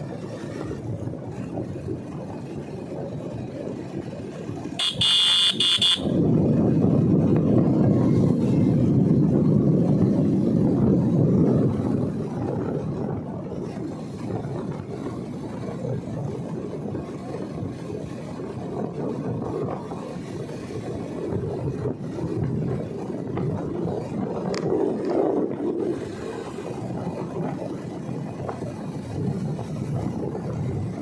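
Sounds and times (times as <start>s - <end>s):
motorcycle engine rumble: 0.0s - 31.0s
wind noise on microphone: 0.0s - 31.0s.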